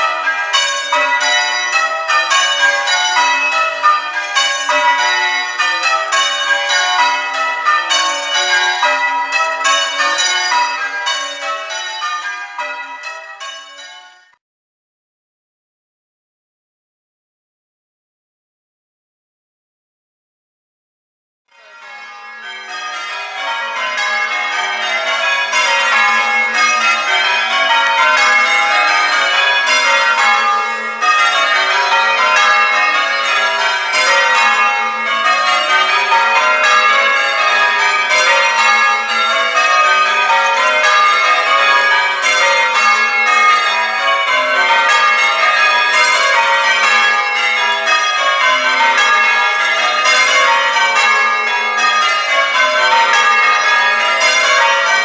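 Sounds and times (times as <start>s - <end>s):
church bells change-ringing: 0.0s - 14.4s, 21.5s - 55.0s.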